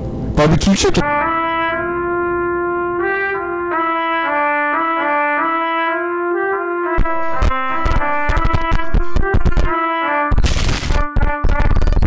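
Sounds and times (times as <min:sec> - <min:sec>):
trumpet-like brass melody: 0:00.4 - 0:12.0.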